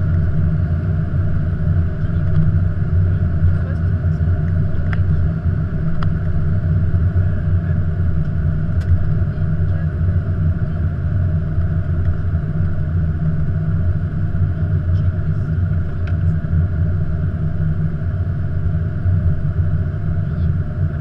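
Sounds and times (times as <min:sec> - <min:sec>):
cockpit low rumble: 0:00.0 - 0:21.0.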